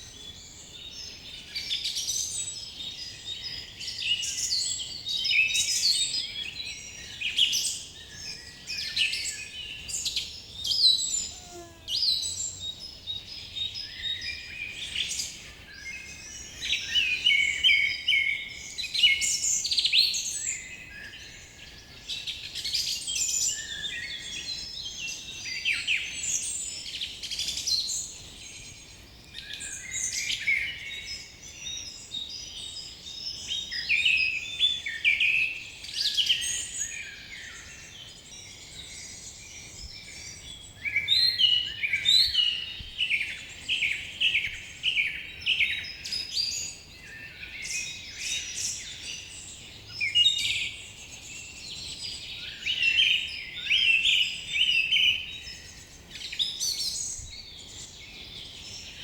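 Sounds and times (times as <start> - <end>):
forest birds chirping and singing: 0.0 - 59.0.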